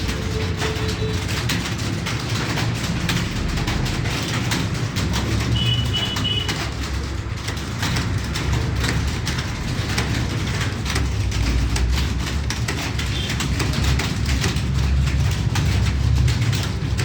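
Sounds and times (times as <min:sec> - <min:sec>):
keyboards clattering: 0:00.0 - 0:17.0.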